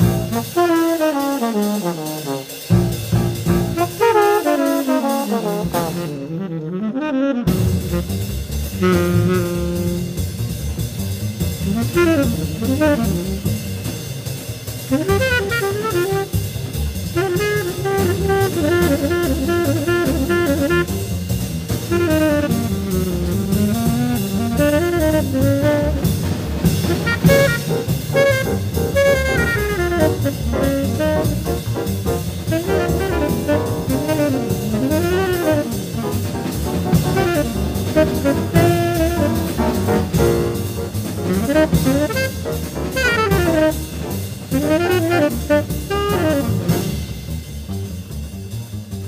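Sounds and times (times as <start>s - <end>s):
drum kit: 0.0s - 49.0s
horn playing fast solo: 3.7s - 10.2s, 11.7s - 13.6s, 14.9s - 16.5s, 17.2s - 21.2s, 21.8s - 47.0s.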